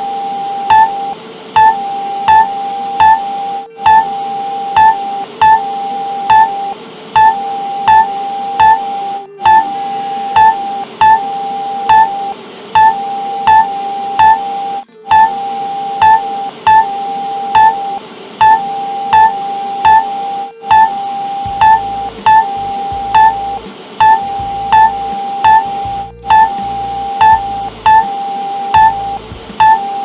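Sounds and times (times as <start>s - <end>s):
short alarm beeps: 0.0s - 30.0s
steady electronic alarm tone: 0.0s - 30.0s.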